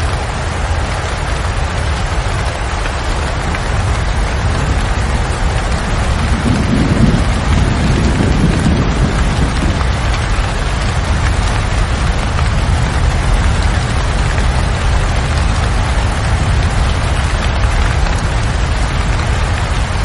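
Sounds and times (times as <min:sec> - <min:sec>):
heavy rain: 0:00.0 - 0:20.0
low rumble of thunder: 0:00.0 - 0:20.0.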